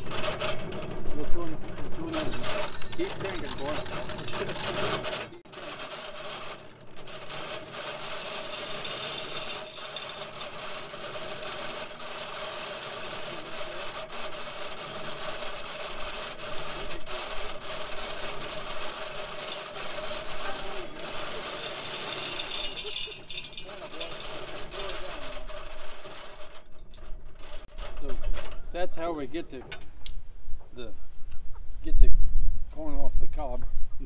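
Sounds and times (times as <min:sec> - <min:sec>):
corn sheller grinding: 0:00.0 - 0:30.2.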